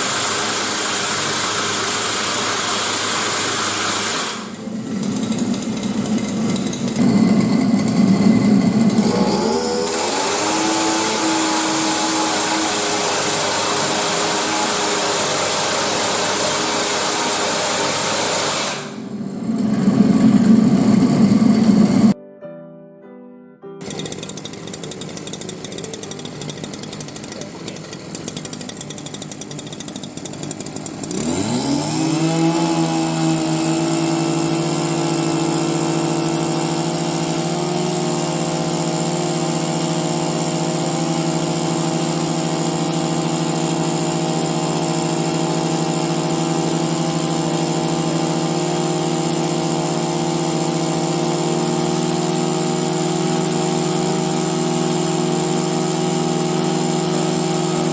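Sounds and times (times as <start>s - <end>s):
small two-stroke engine revving: 0.0s - 22.2s, 23.8s - 57.9s.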